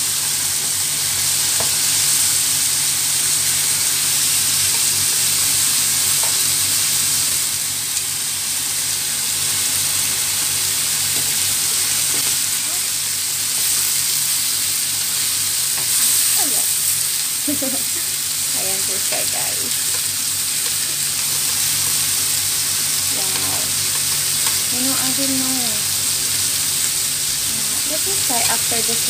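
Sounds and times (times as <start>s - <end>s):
meat sizzling in hot oil: 0.0s - 29.0s.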